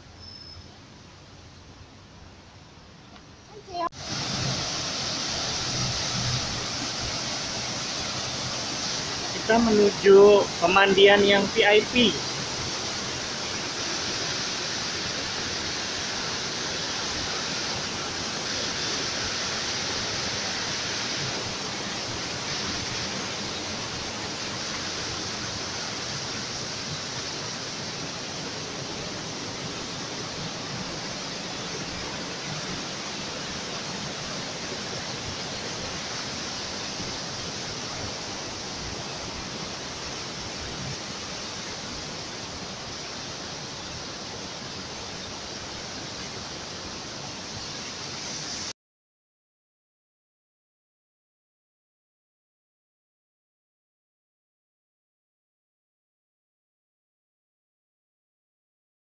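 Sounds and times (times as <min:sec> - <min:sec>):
river and waterfall rushing: 0:00.2 - 0:48.7.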